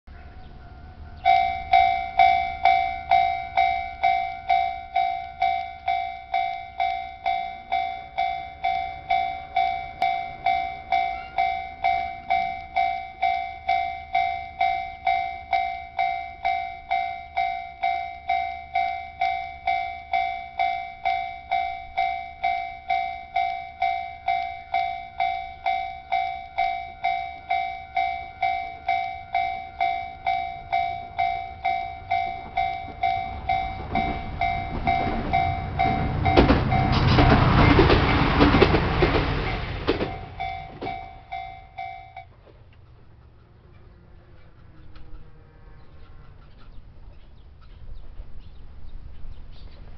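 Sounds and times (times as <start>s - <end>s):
level crossing bell clanging: 1.2s - 42.4s.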